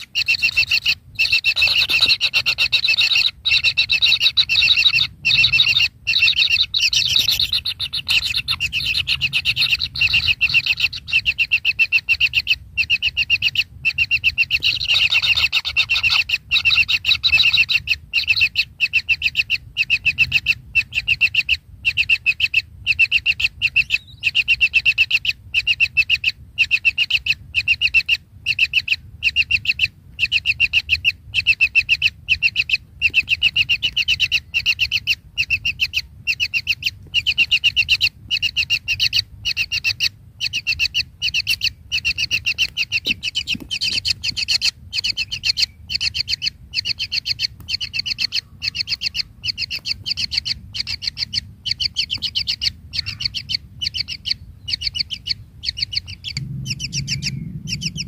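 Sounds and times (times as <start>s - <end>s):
nestlings chirping: 0.0s - 58.0s.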